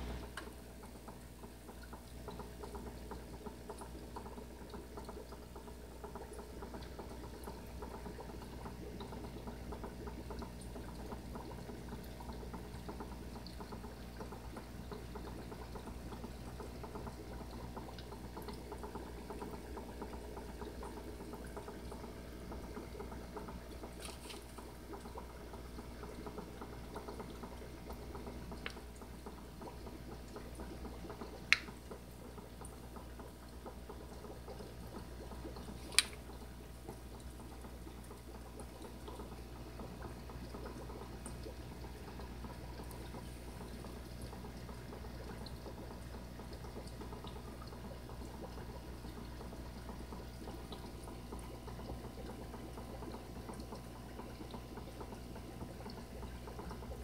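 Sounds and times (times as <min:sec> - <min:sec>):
aquarium water bubbling: 0:00.0 - 0:57.0.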